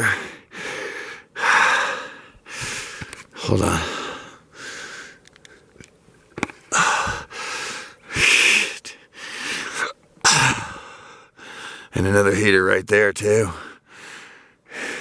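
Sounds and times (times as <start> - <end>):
man breathing heavily and wheezing: 0.0 - 5.7, 6.6 - 12.0, 13.5 - 15.0.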